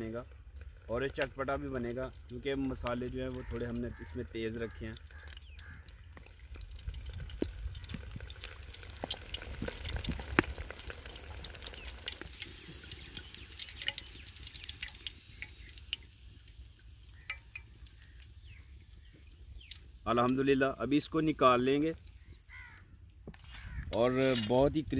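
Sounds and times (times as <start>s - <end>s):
chicken deep-frying in oil: 0.0s - 24.9s.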